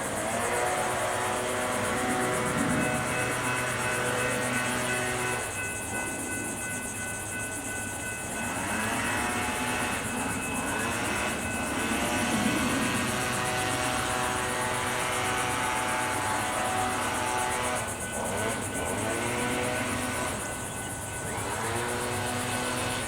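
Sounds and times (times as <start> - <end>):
freight train rumbling past: 0.0 - 23.0
high-pitched train tones: 0.0 - 23.0.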